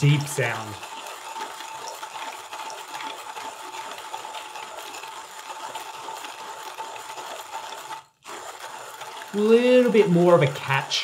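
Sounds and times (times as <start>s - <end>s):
manual coffee grinder grinding: 0.0s - 11.0s.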